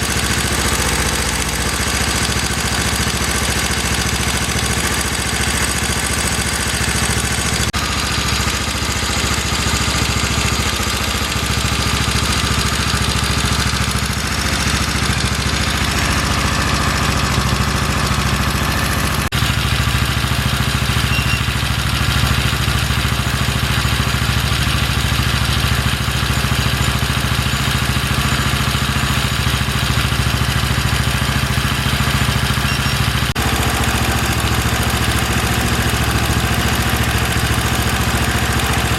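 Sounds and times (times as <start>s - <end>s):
four-stroke engine running: 0.0s - 38.9s.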